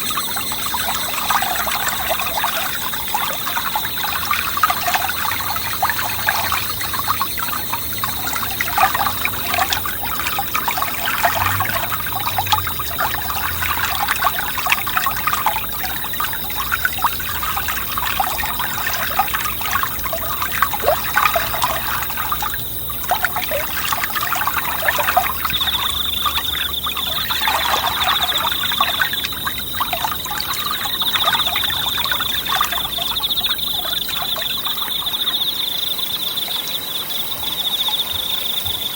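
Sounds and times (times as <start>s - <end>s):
stream babbling over stones: 0.0s - 35.3s
high-pitched insect trill: 0.0s - 38.9s.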